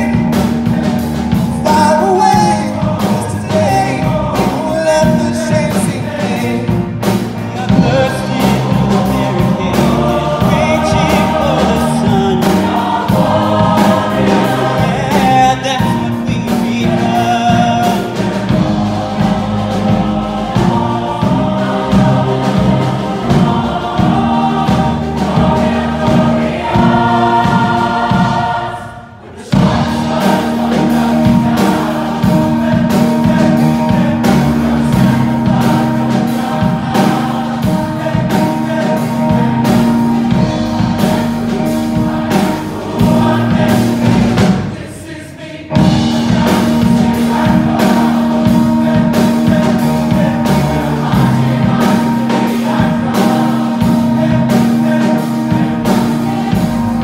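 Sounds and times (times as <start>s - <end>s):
choir singing with band: 0.0s - 57.0s.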